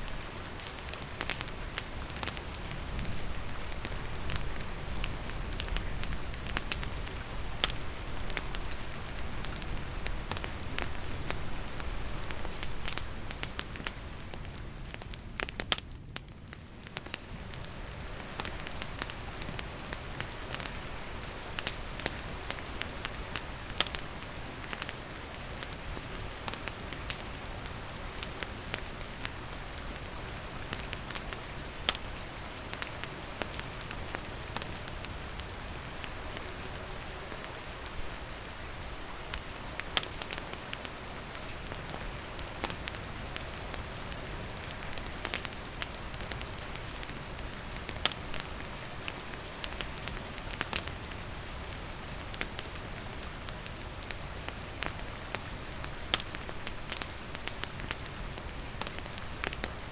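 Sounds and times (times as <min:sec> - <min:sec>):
campfire crackling and popping: 0:00.0 - 0:59.9
steady rain falling: 0:00.0 - 0:59.9.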